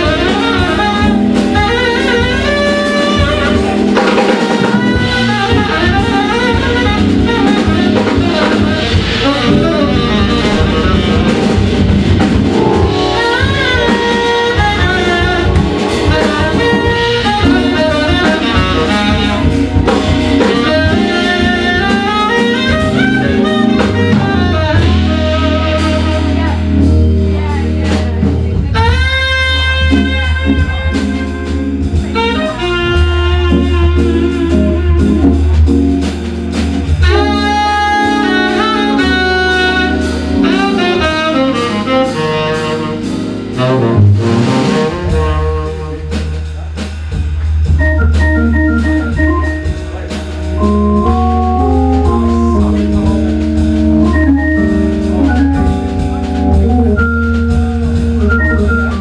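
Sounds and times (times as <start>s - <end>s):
drums and cymbals: 0.0s - 59.0s
organ chords and bass line: 0.0s - 59.0s
tenor saxophone melody: 0.0s - 59.0s.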